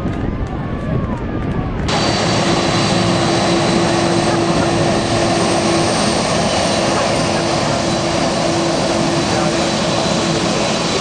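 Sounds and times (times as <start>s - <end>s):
jet engines at high power: 0.0s - 11.0s.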